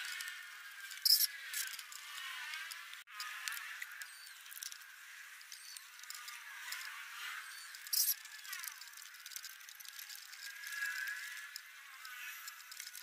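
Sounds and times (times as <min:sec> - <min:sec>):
birds chirping: 0:00.8 - 0:13.0.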